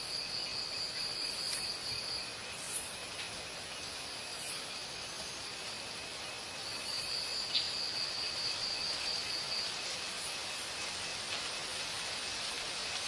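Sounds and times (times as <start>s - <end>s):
high insect trill: 0.0s - 13.0s
steady hiss: 0.0s - 13.0s.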